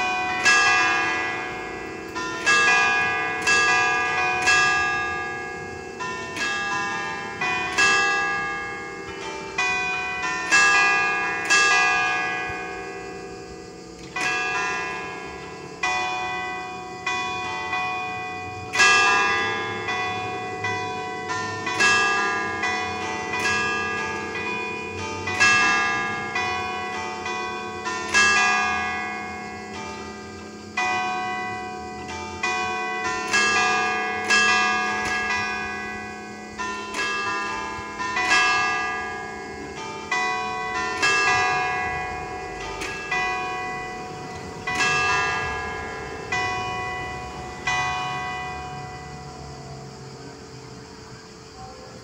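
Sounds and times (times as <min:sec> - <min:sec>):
church bells ringing: 0:00.0 - 0:52.0.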